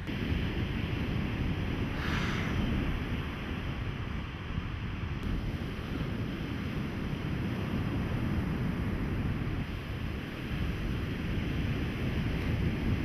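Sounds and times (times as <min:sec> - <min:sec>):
surf on sandy beach: 0:00.0 - 0:13.0
wind buffeting microphone: 0:00.0 - 0:13.0.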